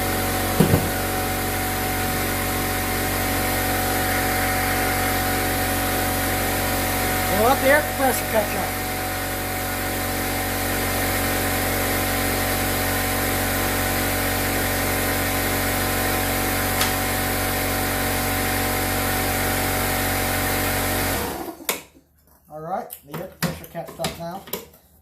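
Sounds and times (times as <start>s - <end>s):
air compressor running: 0.0s - 21.8s.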